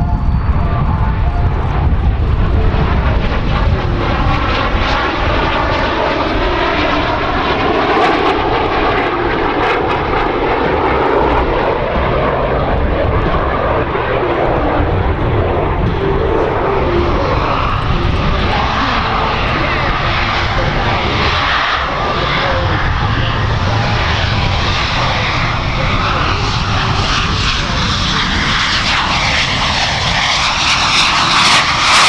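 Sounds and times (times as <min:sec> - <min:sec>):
jets flying past: 0:00.0 - 0:32.0.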